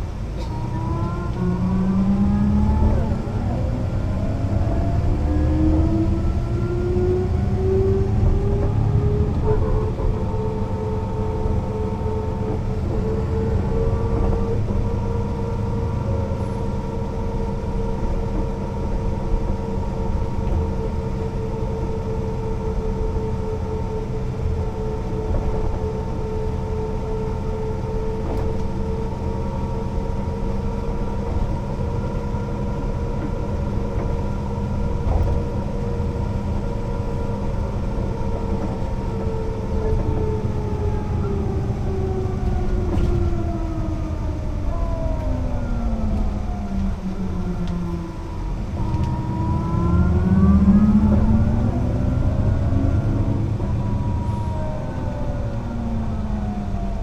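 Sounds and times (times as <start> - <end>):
bus engine rumble: 0.0 - 57.0
bus whine: 0.0 - 57.0.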